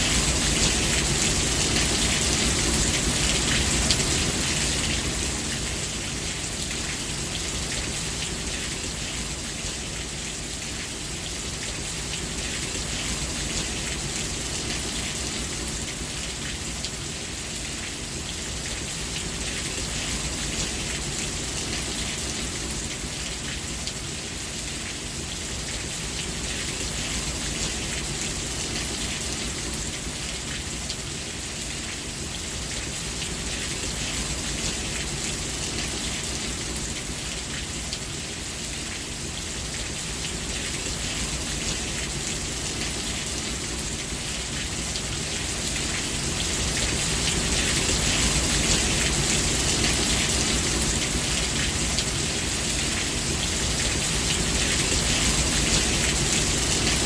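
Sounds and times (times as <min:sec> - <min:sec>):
rain patter on surface: 0:00.0 - 0:57.0.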